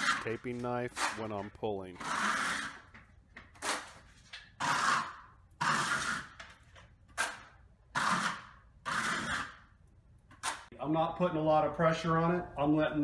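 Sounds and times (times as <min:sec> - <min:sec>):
taping knife scraping ceiling: 0:00.0 - 0:10.7.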